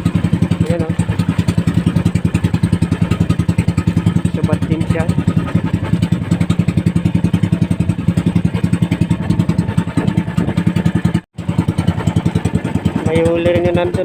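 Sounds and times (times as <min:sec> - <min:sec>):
small boat engine putter: 0:00.0 - 0:14.0.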